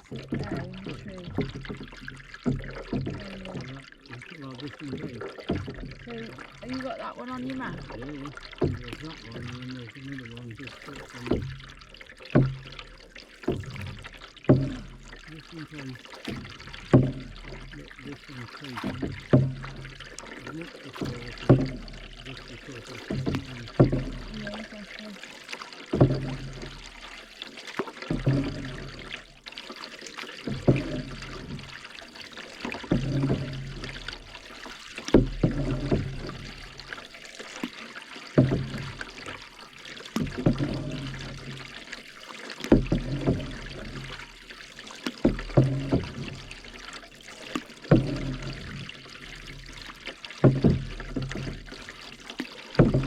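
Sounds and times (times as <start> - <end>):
canoe paddle strokes: 0.0 - 53.0
water trickling off paddle: 0.0 - 53.0.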